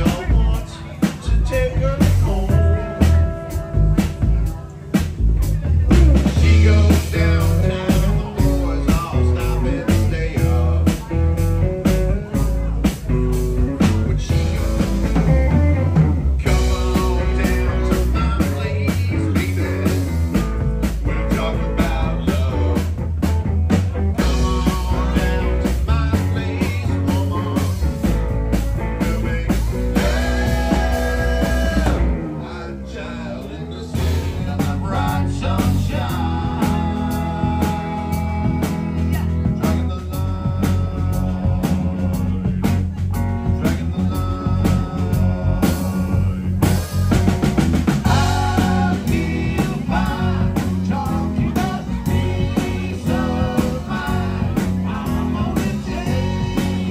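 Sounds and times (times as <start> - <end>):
lead singer singing: 0.0 - 3.6, 6.2 - 15.8, 16.4 - 23.0, 24.1 - 56.9
drum kit: 0.0 - 32.9, 33.8 - 56.9
bass guitar: 0.0 - 56.9
electric guitar: 0.0 - 56.9.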